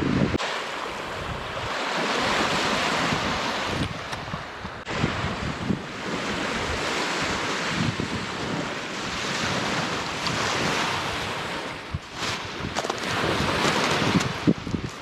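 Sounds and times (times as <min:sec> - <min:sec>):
waves washing in: 0:00.0 - 0:15.0
wind buffeting microphone: 0:00.0 - 0:15.0.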